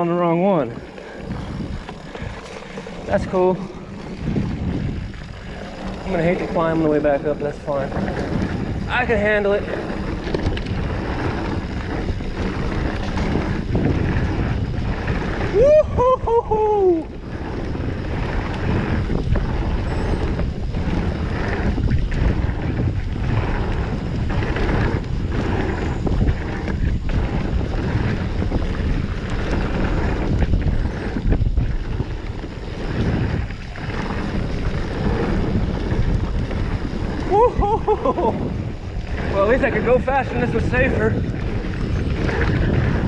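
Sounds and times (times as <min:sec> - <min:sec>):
bike tyres rumbling over dirt: 0:00.0 - 0:43.0
wind buffeting microphone: 0:00.0 - 0:43.0
bike knocks and rattles: 0:00.6 - 0:15.6, 0:17.1 - 0:43.0.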